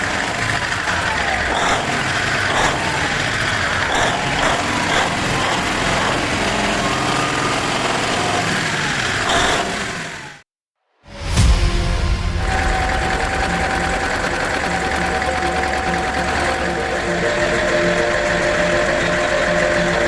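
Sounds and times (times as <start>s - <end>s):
diesel engine running: 0.0s - 10.4s, 12.1s - 20.0s.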